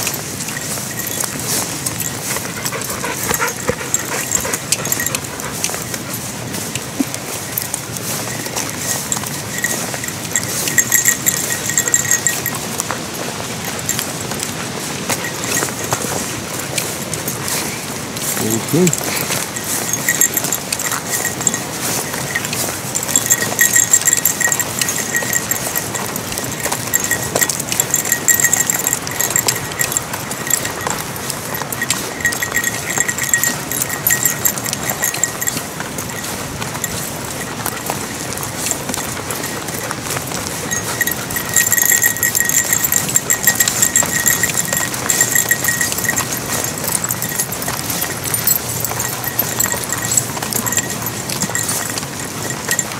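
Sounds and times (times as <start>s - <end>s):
high rapid ticking tone: 0.0s - 6.2s, 7.6s - 12.9s, 18.4s - 52.9s
dog's feet pattering: 0.0s - 52.9s
footsteps crunching on gravel: 0.0s - 52.9s
small metal jingle: 0.0s - 52.9s.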